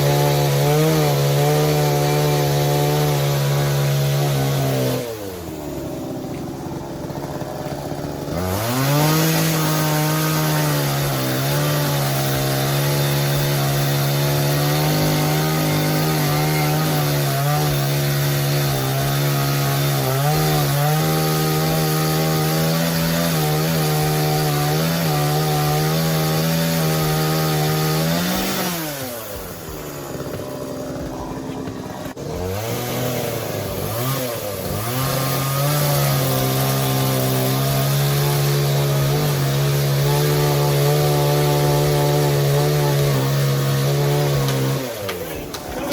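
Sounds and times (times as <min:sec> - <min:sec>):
chainsaw engine revving: 0:00.0 - 0:45.9.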